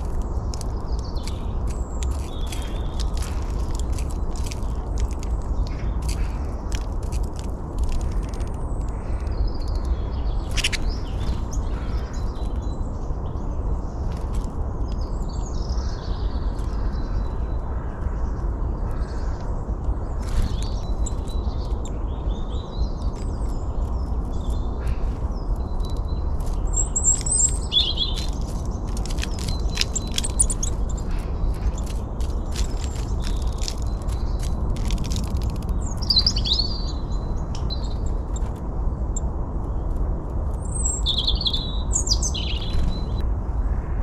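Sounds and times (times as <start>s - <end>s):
songbirds chirping: 0.0s - 44.0s
steady low rumble: 0.0s - 44.0s.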